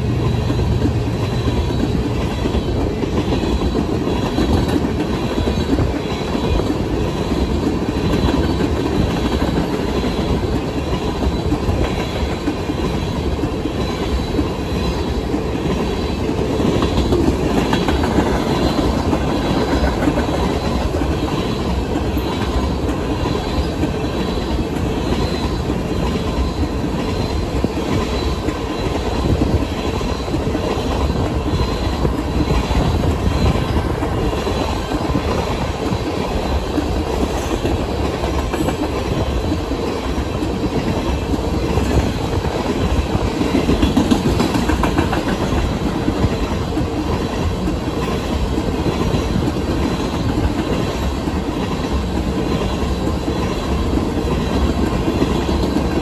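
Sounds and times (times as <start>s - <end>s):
freight train rumbling past: 0.0s - 56.0s
wheels clattering on rails: 0.0s - 56.0s.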